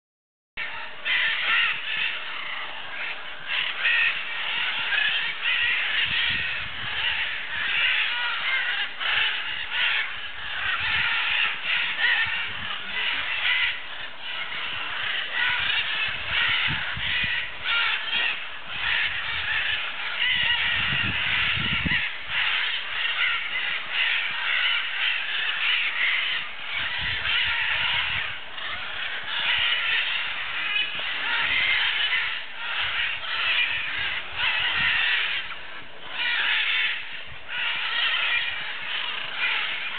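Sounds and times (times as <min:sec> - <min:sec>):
macaws squawking: 0:00.6 - 0:39.9.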